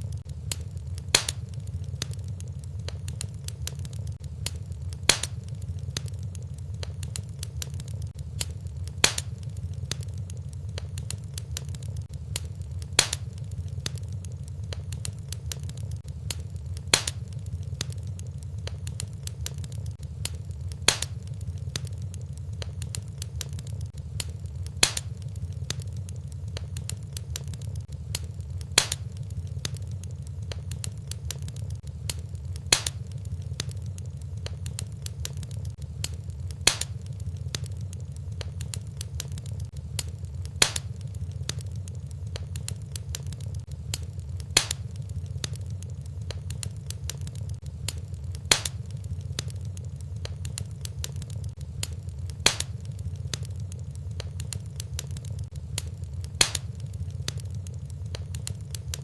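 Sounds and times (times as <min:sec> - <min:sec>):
fire popping: 0:00.0 - 0:59.0
wood fire crackling: 0:00.0 - 0:59.0.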